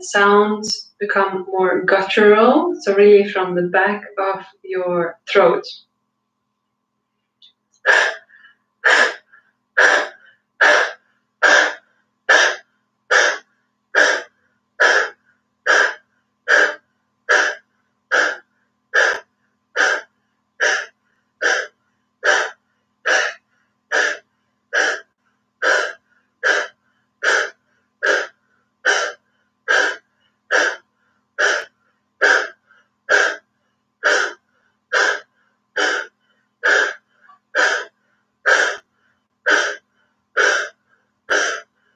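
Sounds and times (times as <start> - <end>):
woman panting breaths: 7.9 - 41.9.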